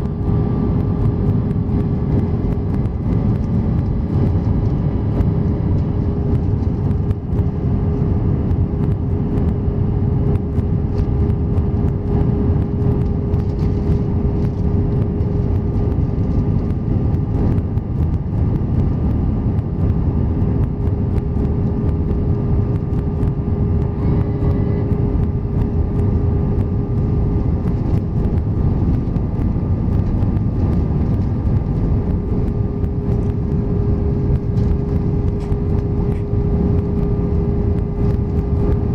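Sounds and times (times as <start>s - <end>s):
airliner cabin rumble: 0.0s - 38.9s
constant hum tone: 0.0s - 38.9s.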